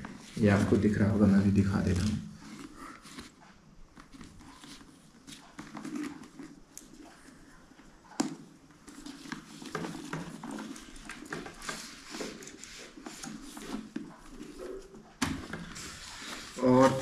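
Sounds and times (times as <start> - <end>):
helmet handling rustling: 2.0 - 17.0.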